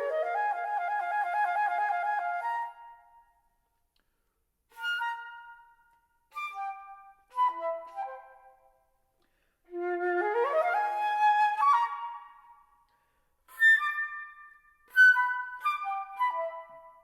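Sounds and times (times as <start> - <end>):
solo flute playing: 0.0 - 3.5, 4.7 - 9.0, 9.7 - 17.0.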